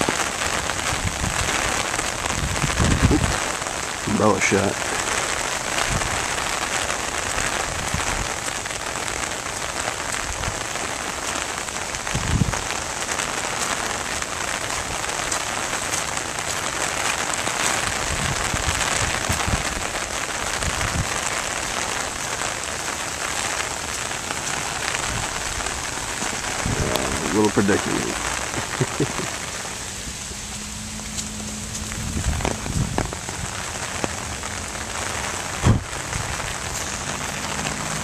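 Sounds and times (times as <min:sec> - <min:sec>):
rain pattering on an umbrella: 0:00.0 - 0:38.0.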